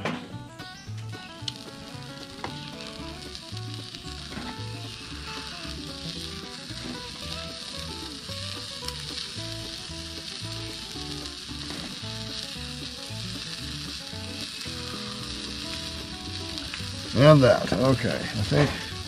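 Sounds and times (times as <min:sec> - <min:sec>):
eggs sizzling on griddle: 0:00.5 - 0:19.0.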